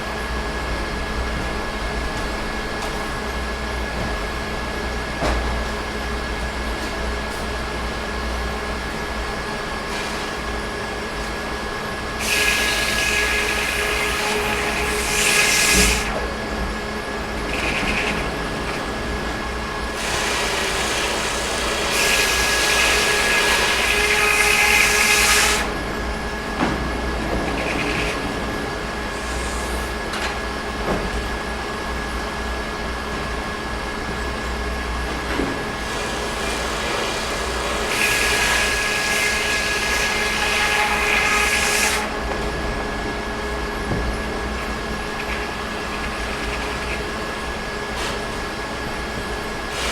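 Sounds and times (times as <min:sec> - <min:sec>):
sawmill machinery humming: 0:00.0 - 0:49.9.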